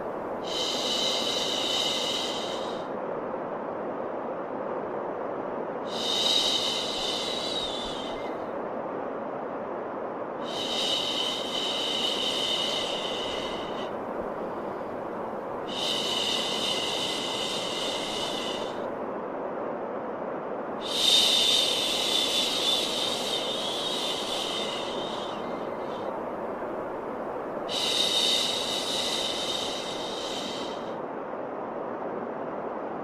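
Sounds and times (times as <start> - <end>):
steady white noise hiss: 0.0 - 33.0.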